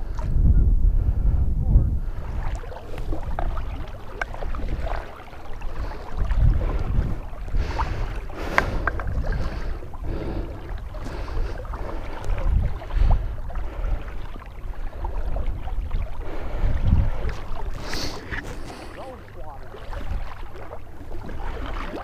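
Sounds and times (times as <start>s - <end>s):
wind rumble on microphone: 0.0s - 22.0s
splashing in marsh water: 2.1s - 22.0s.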